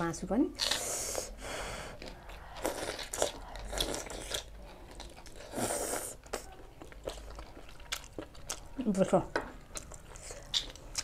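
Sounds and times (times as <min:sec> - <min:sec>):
wet chewing and crunching: 0:00.6 - 0:11.0.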